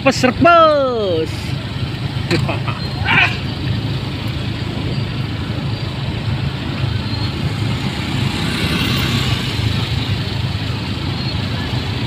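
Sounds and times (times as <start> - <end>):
scooter engines in slow traffic: 0.0 - 12.0.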